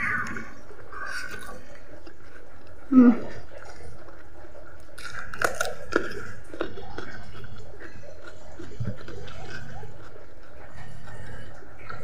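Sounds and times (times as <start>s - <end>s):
cucumber crunching: 0.0s - 12.0s
wet chewing: 0.0s - 12.0s.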